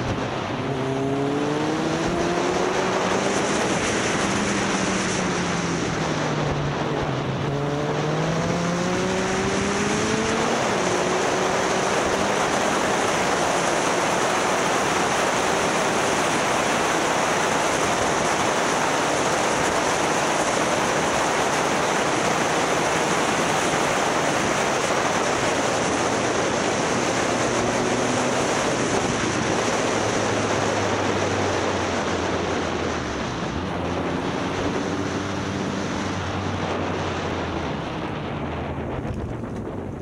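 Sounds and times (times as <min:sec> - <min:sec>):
motorcycle engine running: 0:00.0 - 0:40.0
wind rushing over microphone: 0:00.0 - 0:40.0.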